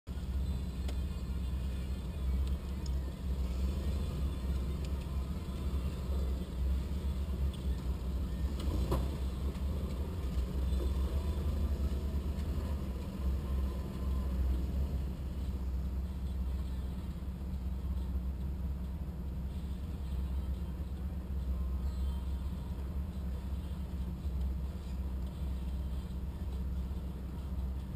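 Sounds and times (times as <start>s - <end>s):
engine idling: 0.1s - 27.9s.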